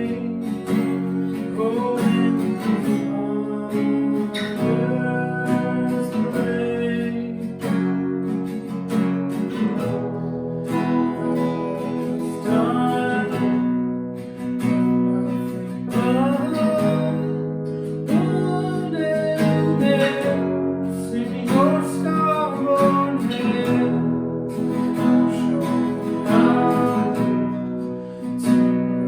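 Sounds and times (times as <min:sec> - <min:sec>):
person singing: 0:00.0 - 0:07.7, 0:09.8 - 0:13.8, 0:14.6 - 0:29.0
strummed acoustic guitar: 0:00.0 - 0:29.0.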